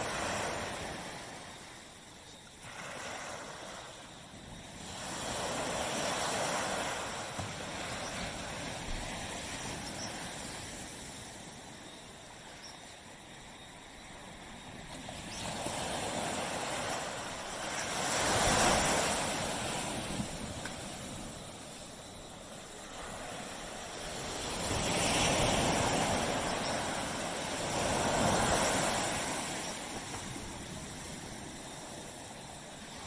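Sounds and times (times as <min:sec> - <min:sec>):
waves breaking on a beach: 0:00.0 - 0:33.0.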